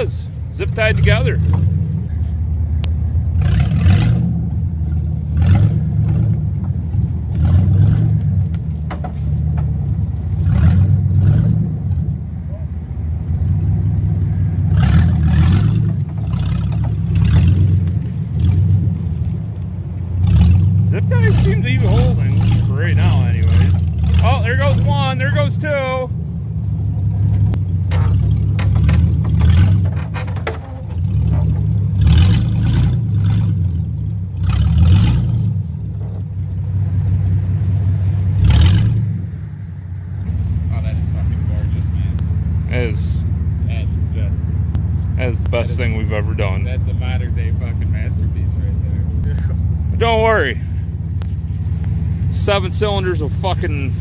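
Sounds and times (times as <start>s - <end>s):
pickup engines at low revs: 0.0s - 54.0s.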